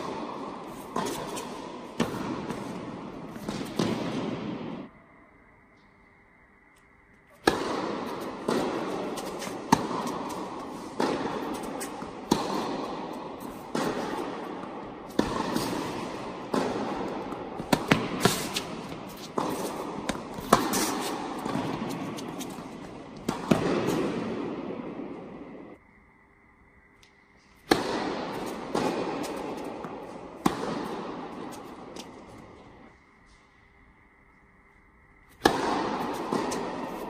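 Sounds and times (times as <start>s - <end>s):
tennis balls bouncing on hard court: 0.0s - 4.9s, 7.3s - 25.8s, 27.6s - 32.9s, 35.3s - 37.0s
tennis balls struck by rackets: 0.0s - 4.9s, 7.3s - 25.8s, 27.6s - 33.0s, 35.3s - 37.0s.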